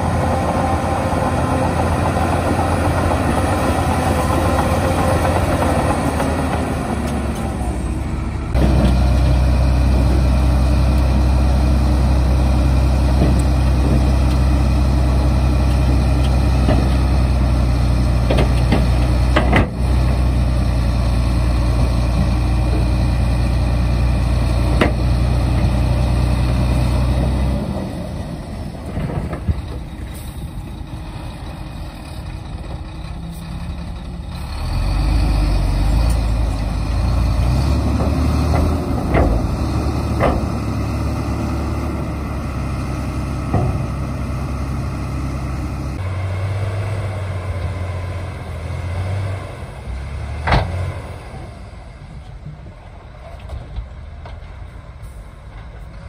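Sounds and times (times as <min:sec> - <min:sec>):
diesel truck engine revving: 0:00.0 - 0:52.4.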